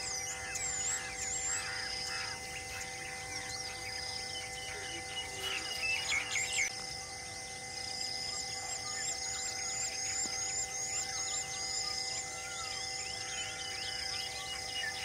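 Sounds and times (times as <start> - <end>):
birds chirping and whistling: 0.0 - 15.0
high insect drone: 0.0 - 15.0.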